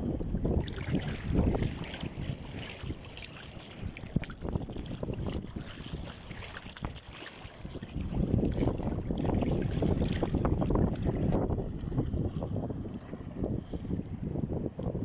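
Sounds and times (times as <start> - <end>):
wind buffeting microphone: 0.0 - 15.0
sea water splashing: 0.2 - 15.0.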